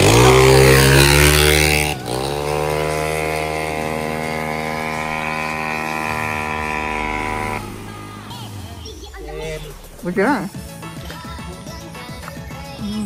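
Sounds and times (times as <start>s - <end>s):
motorcycle at high revs: 0.0s - 11.2s
motorcycle engine revving: 0.0s - 13.0s.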